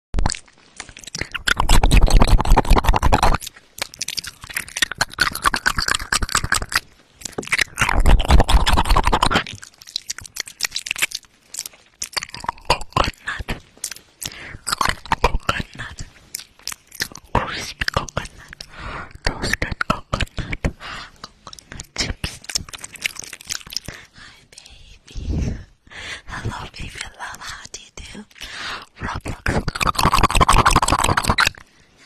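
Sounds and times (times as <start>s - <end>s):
wet mouth clicking and smacking: 0.2s - 24.3s, 26.7s - 31.7s.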